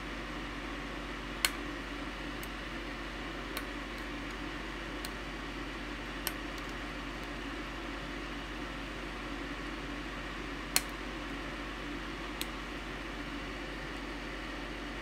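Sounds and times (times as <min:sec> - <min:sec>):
fan-like hiss: 0:00.0 - 0:15.0.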